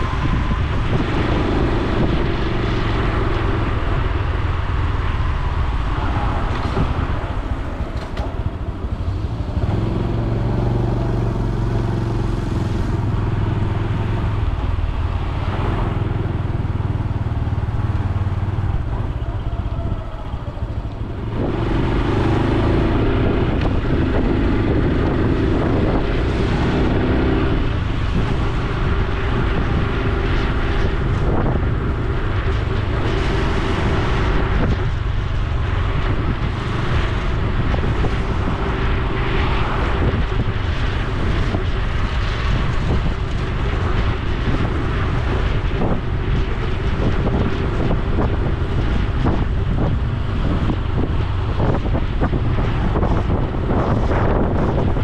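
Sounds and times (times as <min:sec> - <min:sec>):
motorcycle engine revving: 0:00.0 - 0:55.0
wind rushing: 0:00.0 - 0:55.0.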